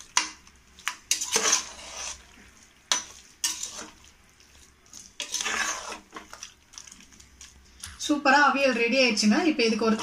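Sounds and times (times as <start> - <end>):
spoon stirring wet mix: 0.0 - 8.1.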